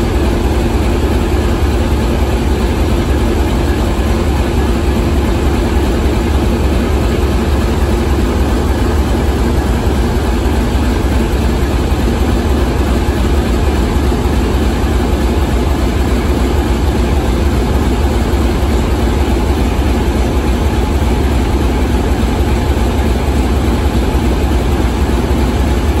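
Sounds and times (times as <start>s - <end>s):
diesel locomotive engine idling: 0.0s - 26.0s.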